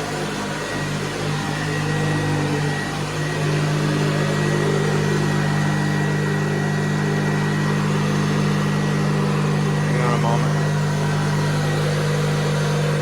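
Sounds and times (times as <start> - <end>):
vacuum cleaner motor hum and whine: 0.0 - 13.0.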